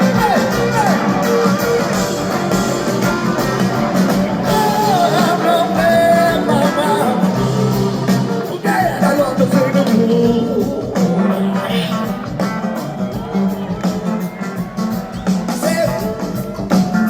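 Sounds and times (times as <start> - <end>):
live rock band music: 0.0 - 17.0
sliding lead guitar line: 0.0 - 17.0.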